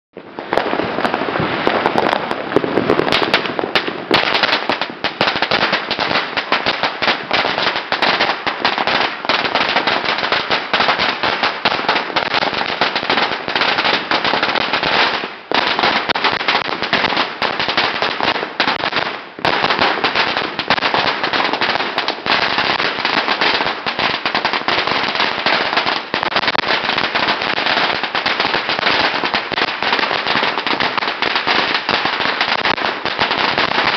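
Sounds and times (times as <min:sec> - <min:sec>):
firecrackers going off: 0:00.2 - 0:33.9.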